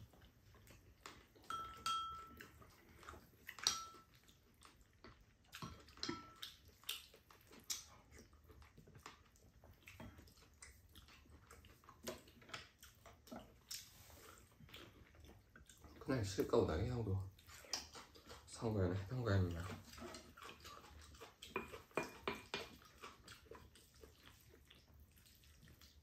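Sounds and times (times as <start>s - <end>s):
chewing and slurping: 0.0s - 26.0s.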